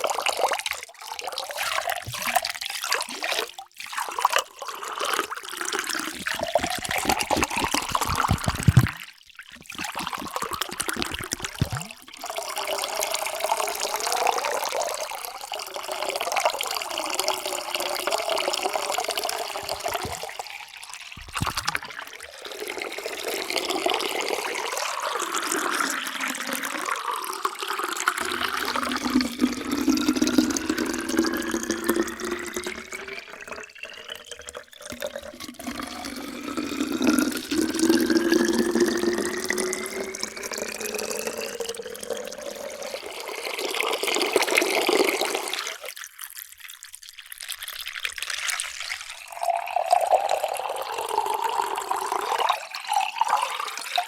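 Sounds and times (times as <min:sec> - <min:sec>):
water pouring into vessel: 0:00.0 - 0:54.0.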